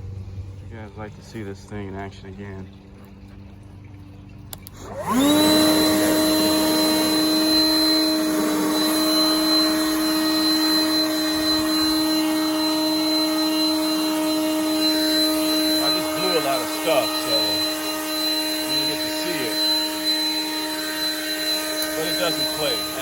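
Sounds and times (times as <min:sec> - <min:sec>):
leaf blower motor whining: 0:04.5 - 0:23.0.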